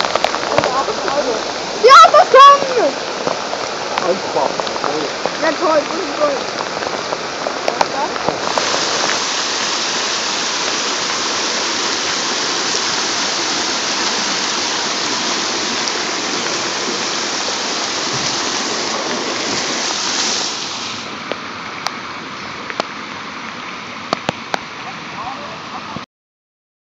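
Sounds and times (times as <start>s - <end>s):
floodwater rushing: 0.0s - 26.0s
heavy rain: 0.0s - 26.1s.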